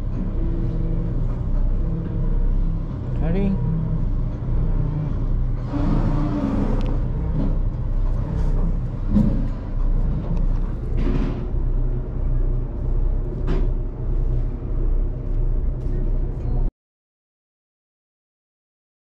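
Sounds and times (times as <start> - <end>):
low engine drone: 0.0 - 16.7.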